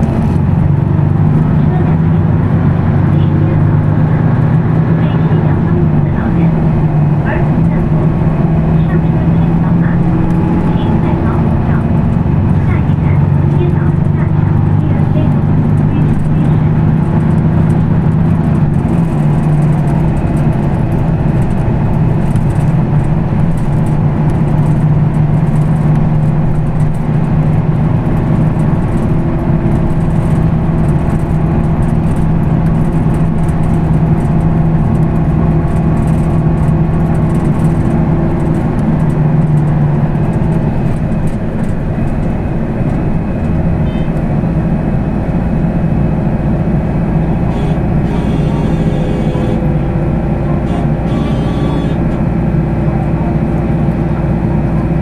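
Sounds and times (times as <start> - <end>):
bus engine hum: 0.0 - 55.0.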